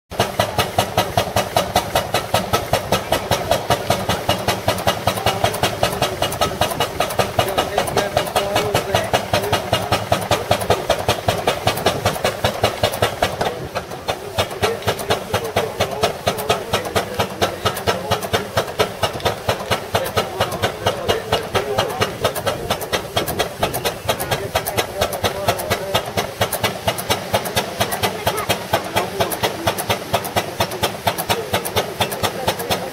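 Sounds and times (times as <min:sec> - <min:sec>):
steam pump beating: 0:00.1 - 0:32.9.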